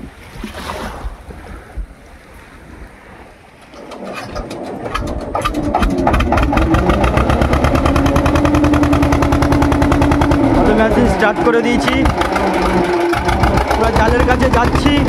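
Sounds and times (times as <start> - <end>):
boat engine starting and running: 2.8 - 15.0.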